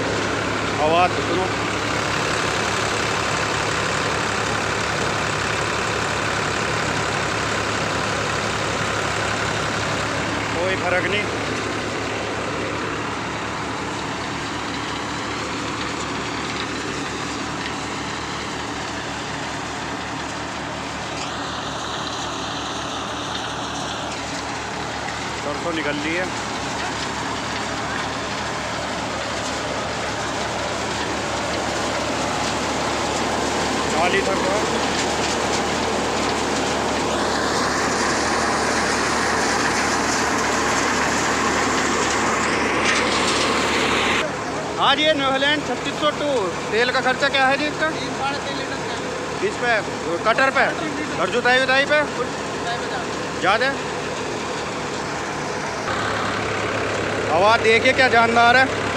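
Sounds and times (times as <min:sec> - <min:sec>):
thresher rushing: 0:00.0 - 0:58.9
tractor diesel engine under load: 0:00.0 - 0:58.9.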